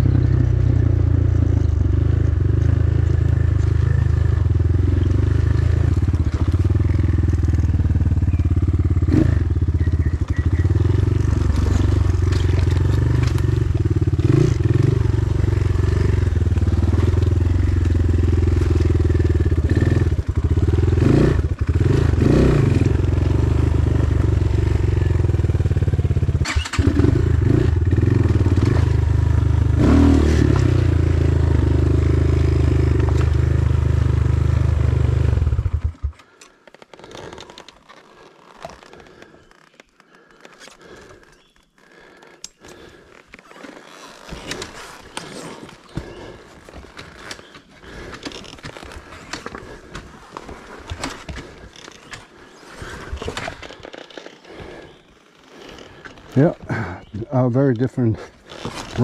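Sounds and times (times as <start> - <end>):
dirt bike engine running: 0.0 - 39.5, 40.1 - 59.0.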